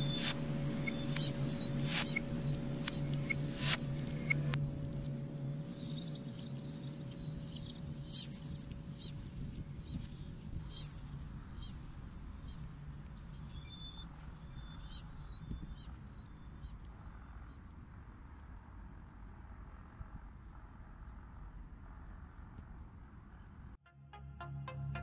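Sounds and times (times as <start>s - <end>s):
low background rumble: 0.0s - 23.8s
small birds chirping: 0.0s - 23.8s.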